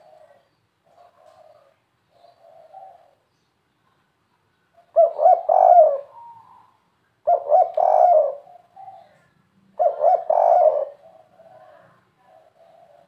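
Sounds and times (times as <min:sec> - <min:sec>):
dove cooing: 0:00.0 - 0:03.2, 0:04.8 - 0:13.0.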